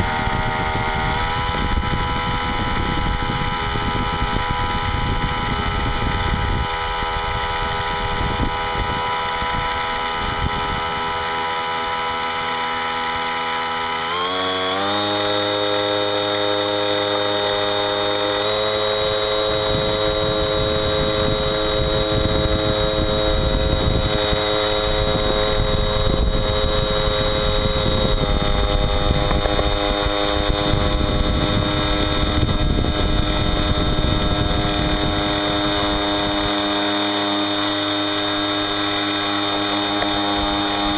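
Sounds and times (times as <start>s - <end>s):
model boat motor whine: 0.0s - 40.9s.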